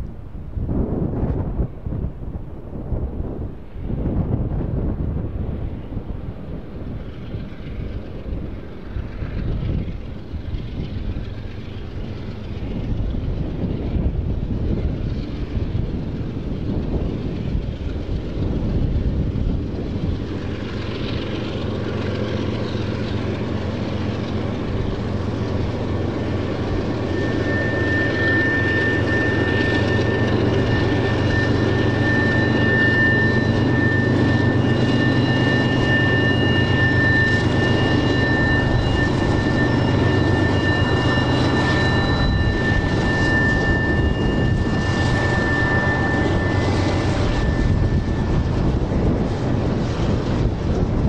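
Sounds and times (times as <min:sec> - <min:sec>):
diesel locomotive engine hum: 0:00.0 - 0:51.0
high-pitched whine: 0:06.9 - 0:51.0.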